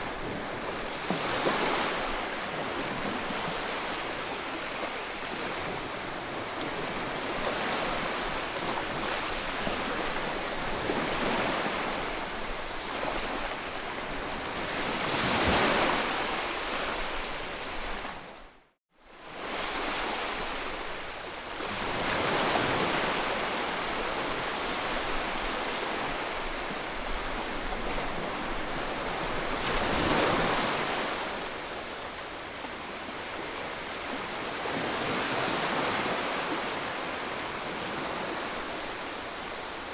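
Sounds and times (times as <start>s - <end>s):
sea waves breaking: 0.0s - 18.3s, 21.6s - 39.9s.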